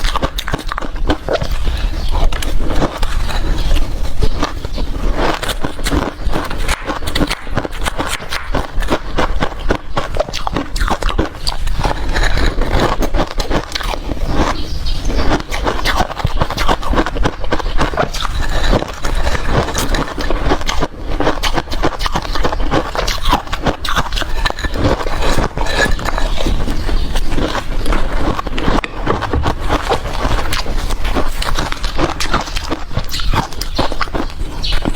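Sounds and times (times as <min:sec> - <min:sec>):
ice being crunched and chewed: 0:00.0 - 0:34.9.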